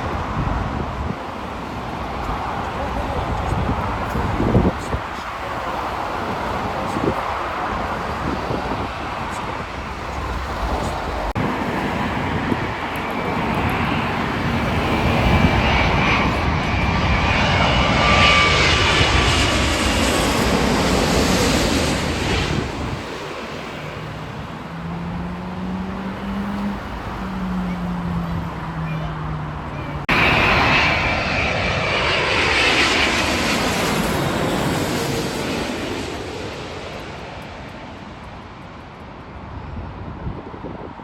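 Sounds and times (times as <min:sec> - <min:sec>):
jet airliner engine rumble: 0:00.0 - 0:41.0.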